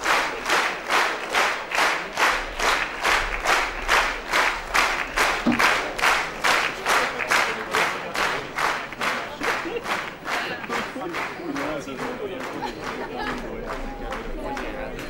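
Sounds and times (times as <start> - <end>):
audience clapping in unison: 0.0 - 15.0.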